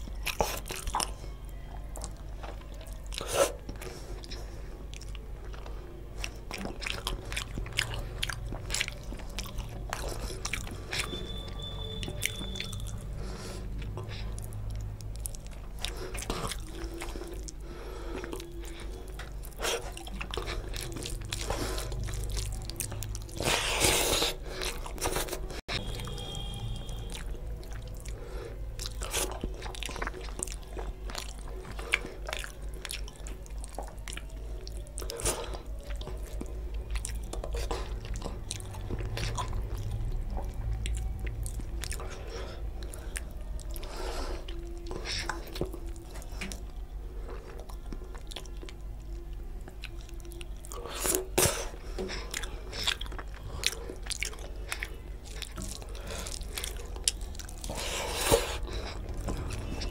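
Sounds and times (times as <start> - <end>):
steady low hum: 0.0 - 59.9
wet chewing and lip smacks: 0.0 - 59.9.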